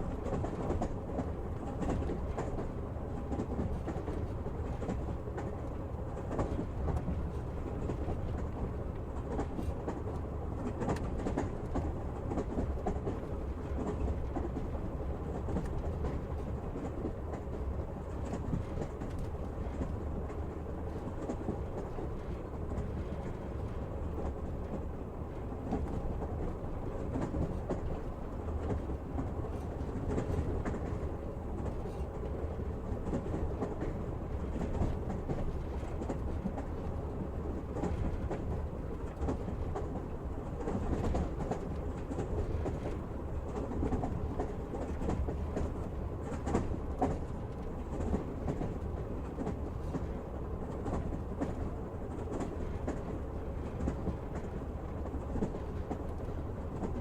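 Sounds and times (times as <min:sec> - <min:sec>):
train rumbling: 0:00.0 - 0:57.0
train wheels clacking on rails: 0:00.0 - 0:57.0.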